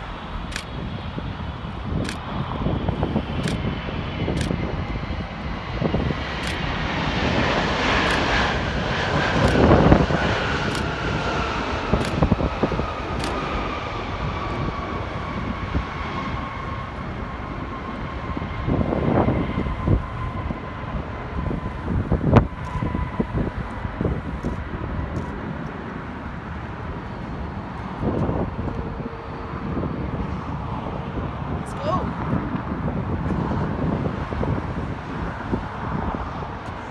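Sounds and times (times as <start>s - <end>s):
jet engines rumbling with falling whine: 0.0s - 36.9s.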